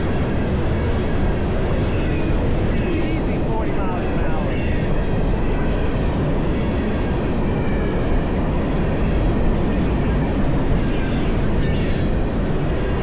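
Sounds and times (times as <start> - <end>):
freight train passing: 0.0 - 13.0.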